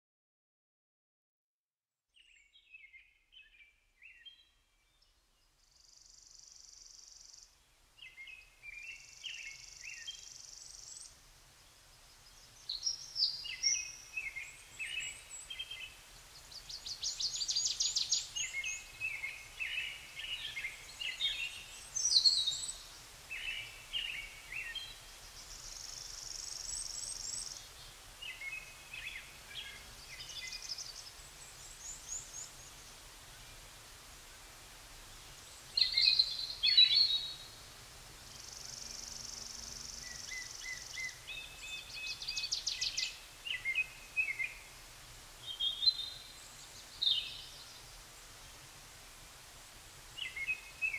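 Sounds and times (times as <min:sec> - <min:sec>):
songbirds singing: 0:02.2 - 0:48.7, 0:50.0 - 0:50.9.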